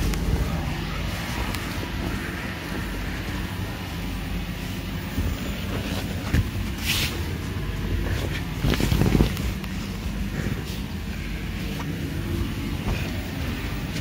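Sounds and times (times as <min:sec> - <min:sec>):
electric blower fan droning: 0:00.0 - 0:14.0.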